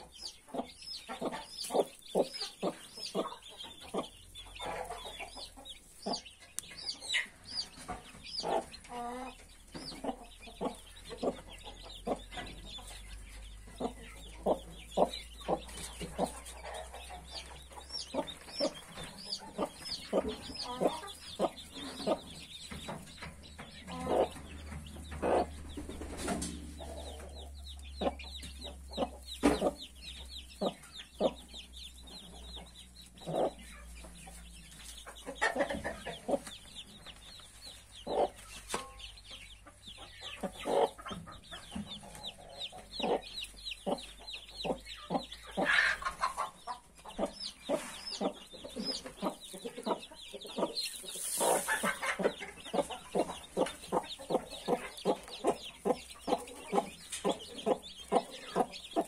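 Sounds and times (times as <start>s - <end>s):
chicks peeping: 0.0s - 59.0s
hen clucking: 0.0s - 59.0s.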